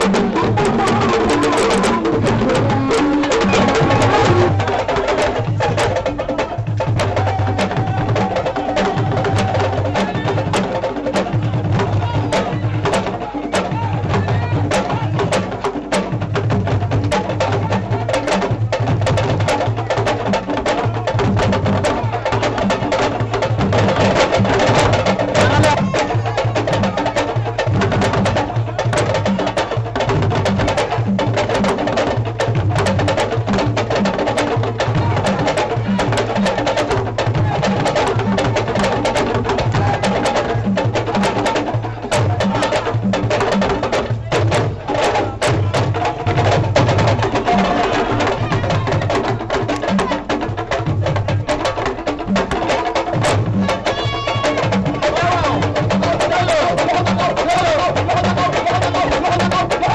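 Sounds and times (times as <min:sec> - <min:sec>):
hand drums played fast: 0:00.0 - 0:59.9.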